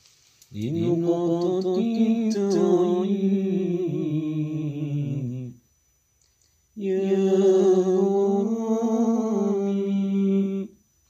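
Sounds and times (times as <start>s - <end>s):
person singing a devotional chant: 0.5s - 5.6s, 6.8s - 10.8s.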